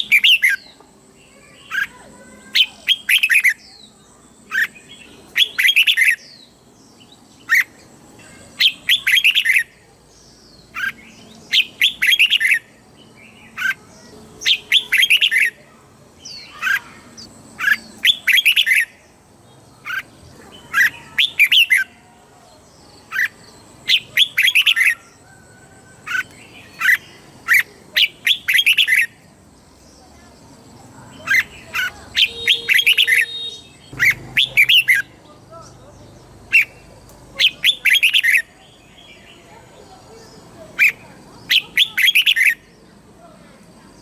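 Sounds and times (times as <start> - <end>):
bird singing warbling song: 0.0 - 44.0.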